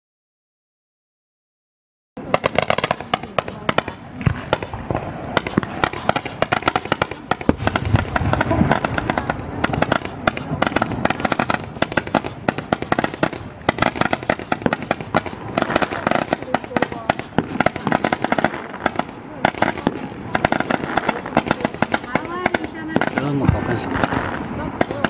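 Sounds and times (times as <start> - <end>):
roman candle firing rapid pops: 2.3 - 25.0.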